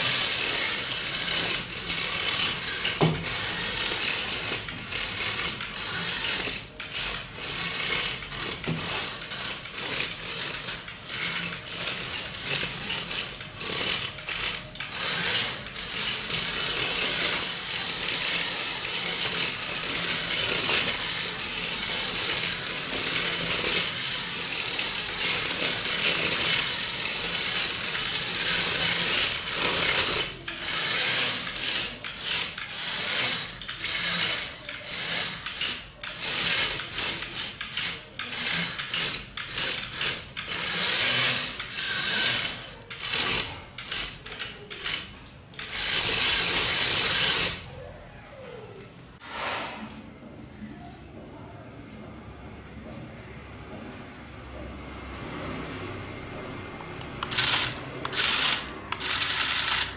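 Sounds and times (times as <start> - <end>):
toy car electric motors running: 0.0 - 48.6, 55.5 - 59.9
wheels rolling on tiled floor: 0.0 - 50.1, 54.4 - 59.9.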